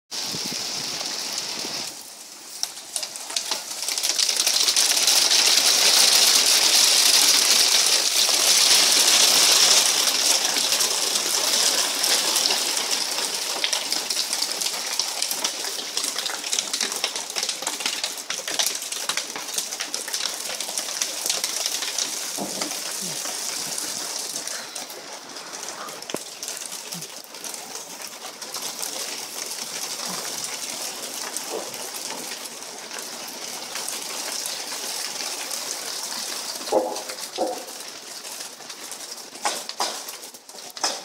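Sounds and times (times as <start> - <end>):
hailstones pattering: 0.1 - 41.0.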